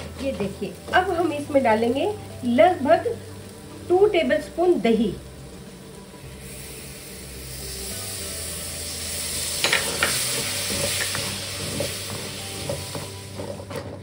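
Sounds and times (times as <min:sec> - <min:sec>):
curd sizzling in hot oil: 0:00.0 - 0:14.0.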